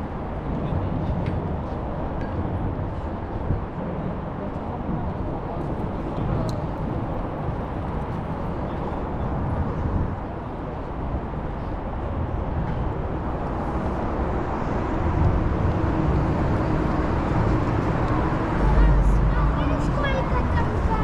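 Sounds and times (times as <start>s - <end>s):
passing traffic rumble: 0.0s - 21.0s.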